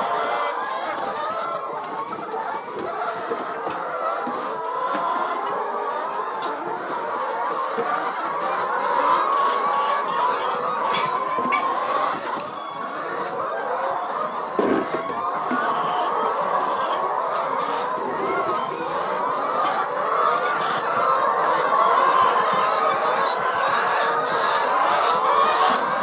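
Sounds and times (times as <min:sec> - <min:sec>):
flock of hens clucking: 0:00.0 - 0:26.0.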